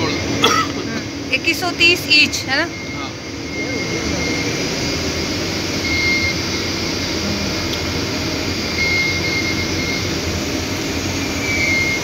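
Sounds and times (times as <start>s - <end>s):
shop ambience hum and hiss: 0.0s - 12.0s.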